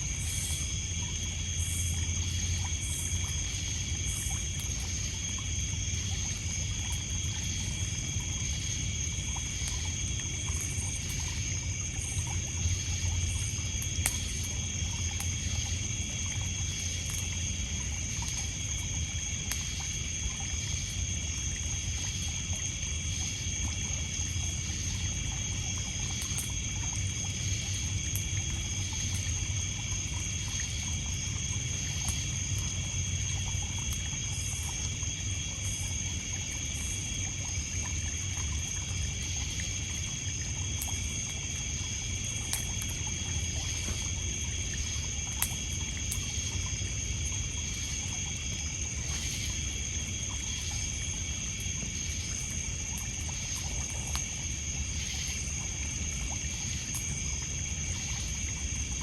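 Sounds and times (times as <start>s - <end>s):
campfire wood crackling: 0.0s - 58.6s
crickets and insects trilling: 0.0s - 59.0s
water lapping on pebbles: 0.0s - 59.0s.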